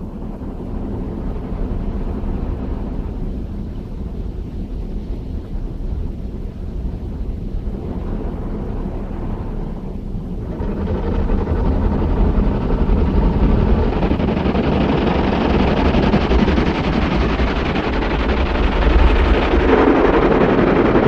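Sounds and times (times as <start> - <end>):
loud continuous rumbling: 0.0 - 21.0.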